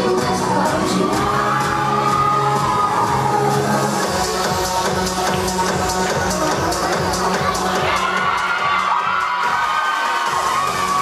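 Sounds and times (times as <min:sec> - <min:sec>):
loud dance music: 0:00.0 - 0:11.0
audience cheering and screaming: 0:00.5 - 0:05.7, 0:06.4 - 0:11.0.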